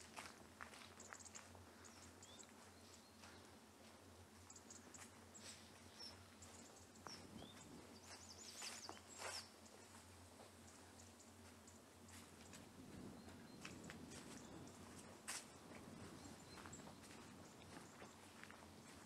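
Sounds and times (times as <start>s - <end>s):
footsteps on dirt path: 0.0s - 19.0s
small birds chirping: 0.6s - 19.0s.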